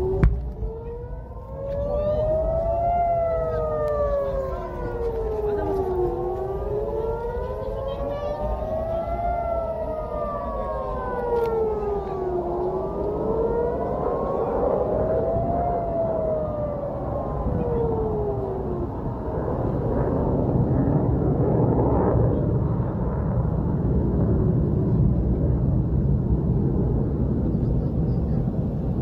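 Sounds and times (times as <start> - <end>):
warning siren wailing: 0.0 - 27.5
low rumbling: 0.0 - 29.0.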